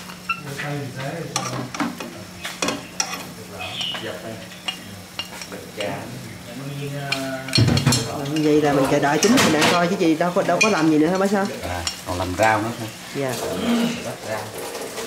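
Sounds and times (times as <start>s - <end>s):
fish sizzling in a pot: 0.0s - 15.0s
utensil stirring and clinking: 0.0s - 15.0s.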